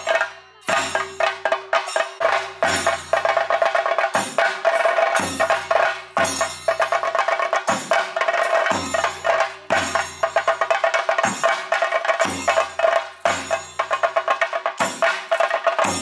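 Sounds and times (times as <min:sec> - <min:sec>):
drums played with sticks: 0:00.0 - 0:16.0.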